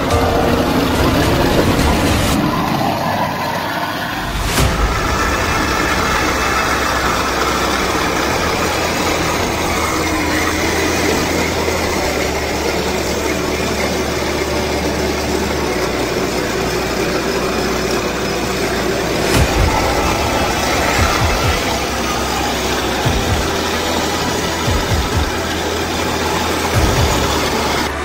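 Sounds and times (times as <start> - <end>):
simulated diesel engine rumble: 0.0 - 28.0
tracks churning water: 0.0 - 28.0.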